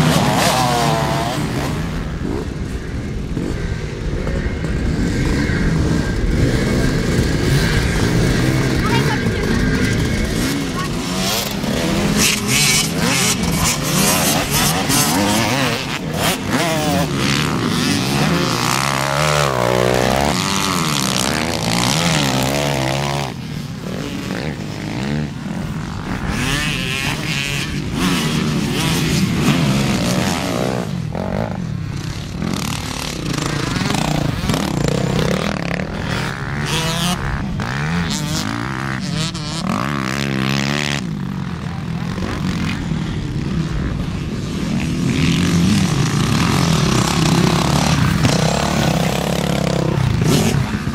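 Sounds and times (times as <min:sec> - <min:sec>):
motocross bike engines revving: 0:00.0 - 0:50.9.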